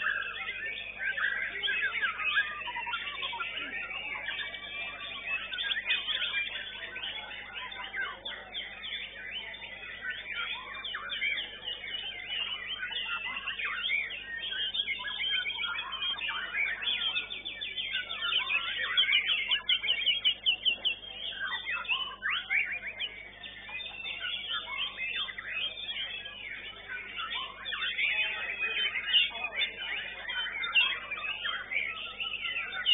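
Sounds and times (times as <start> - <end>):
bird singing whistles and chirps: 0.0 - 32.9.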